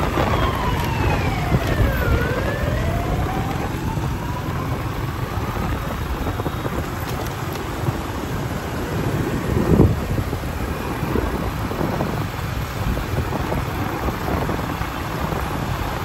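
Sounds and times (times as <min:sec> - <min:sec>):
motor traffic: 0:00.0 - 0:16.0
vehicle whine: 0:00.0 - 0:16.0
wind rumbling on microphone: 0:00.0 - 0:16.0.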